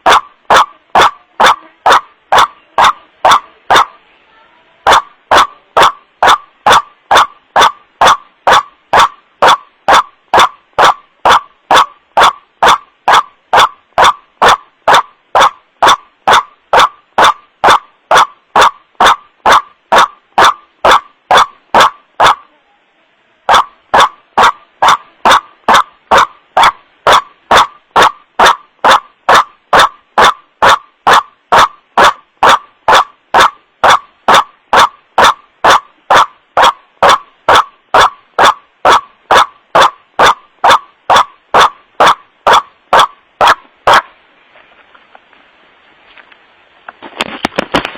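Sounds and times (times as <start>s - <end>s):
recorded waterhen call: 0.0s - 44.2s.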